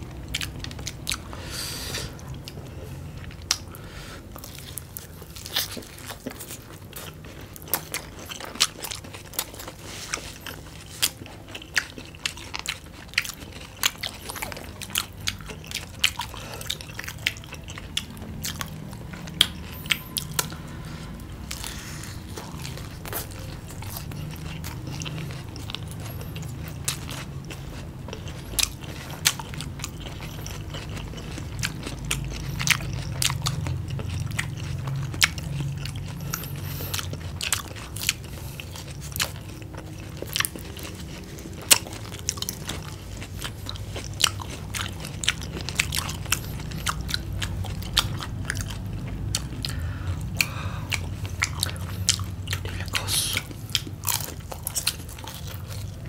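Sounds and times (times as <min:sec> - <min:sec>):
chewing: 0:00.0 - 0:56.0
crunching fried food: 0:00.0 - 0:56.0.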